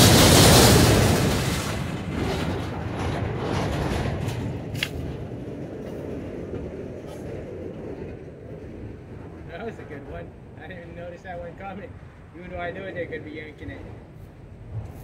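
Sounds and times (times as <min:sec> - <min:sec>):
train wheels rolling on rail: 0:00.0 - 0:15.0.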